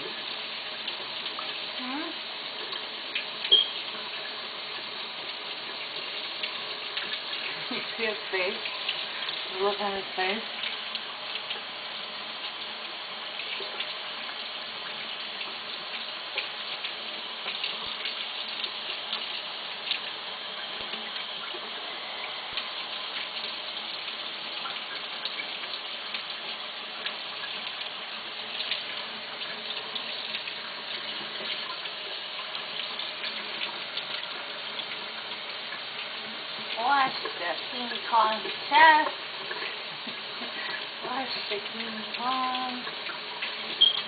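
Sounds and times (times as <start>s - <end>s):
small splashes and drips: 0.0s - 44.0s
tap water running into sink: 0.0s - 44.0s.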